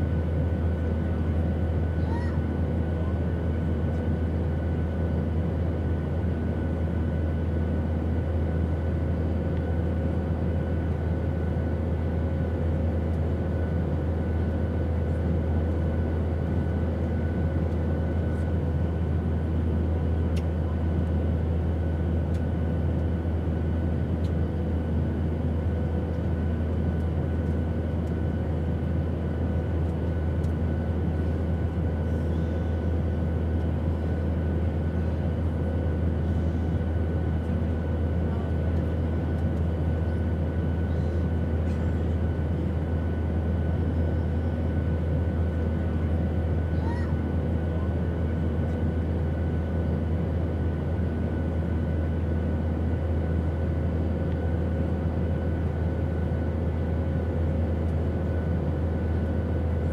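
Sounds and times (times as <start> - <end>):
airplane engine drone: 0.0 - 59.9
faint hum tones: 0.0 - 59.9.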